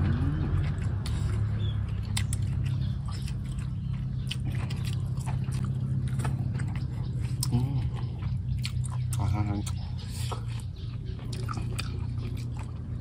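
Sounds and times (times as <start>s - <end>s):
people chewing food: 0.0s - 13.0s
steady low hum: 0.0s - 13.0s.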